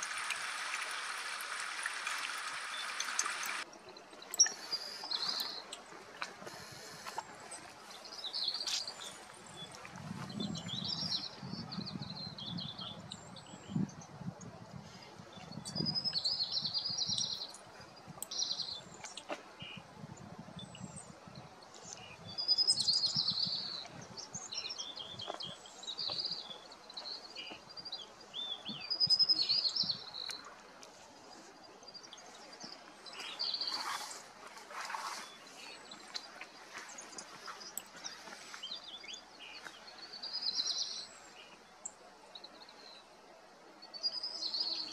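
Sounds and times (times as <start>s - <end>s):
small birds chirping: 2.3s - 14.2s, 15.0s - 19.9s, 20.6s - 43.2s.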